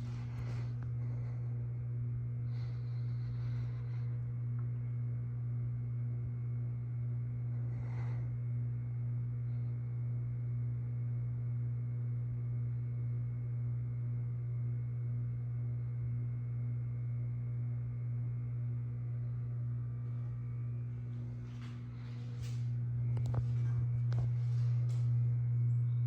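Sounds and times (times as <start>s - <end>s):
ceiling fan motor humming: 0.0s - 26.0s.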